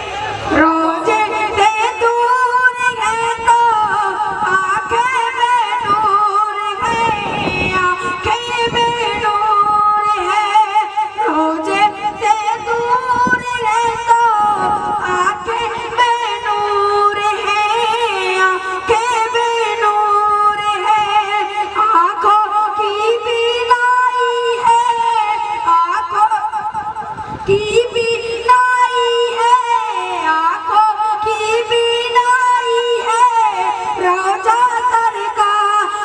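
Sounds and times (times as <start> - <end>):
boy singing into a microphone: 0.0 - 36.0.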